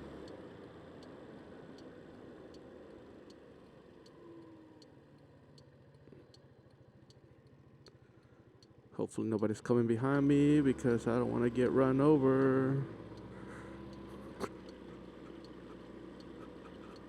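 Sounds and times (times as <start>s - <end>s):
turn signal ticking: 0.2s - 17.0s.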